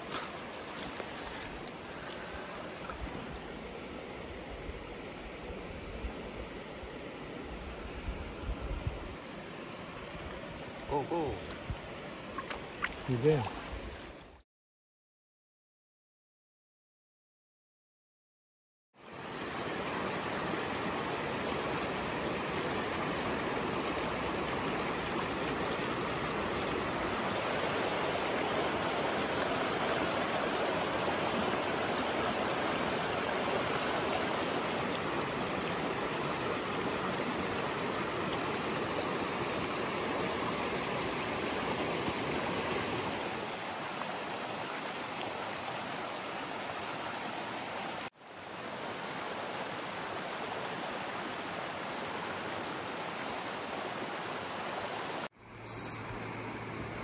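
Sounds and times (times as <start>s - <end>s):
stream rushing over stones: 0.0s - 14.4s, 19.0s - 55.4s.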